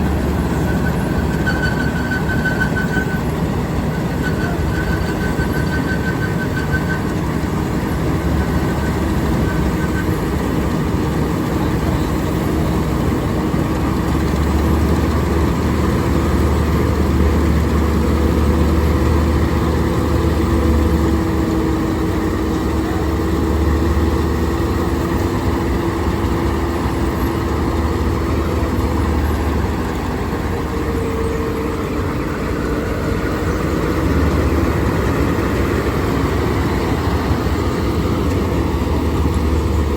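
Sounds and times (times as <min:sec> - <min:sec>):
combine harvester engine rumble: 0:00.0 - 0:39.9
faint machinery whine: 0:00.0 - 0:39.9.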